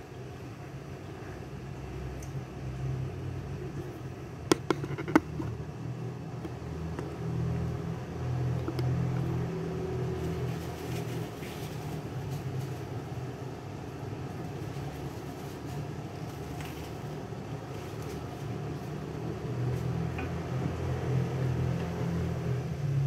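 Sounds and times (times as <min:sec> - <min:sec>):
extractor fan humming: 0:00.0 - 0:23.0.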